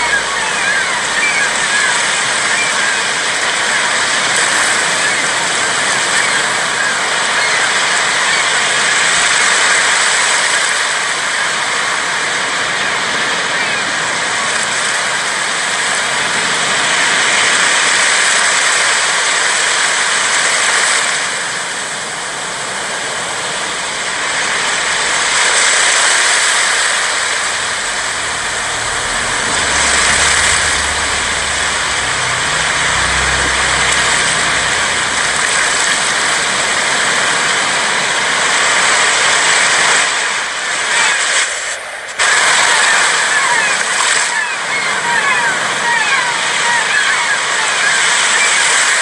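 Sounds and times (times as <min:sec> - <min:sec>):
waves washing onto sandy beach: 0:00.0 - 0:49.0.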